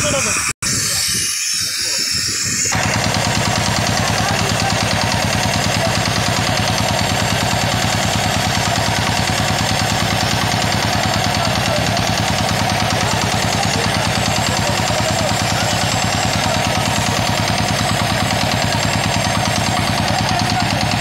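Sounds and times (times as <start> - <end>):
boat engine idling: 2.7 - 21.0.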